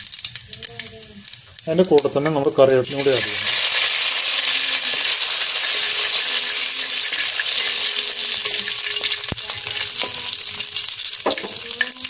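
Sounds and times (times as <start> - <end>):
leaves sizzling in hot oil: 0.0 - 12.0.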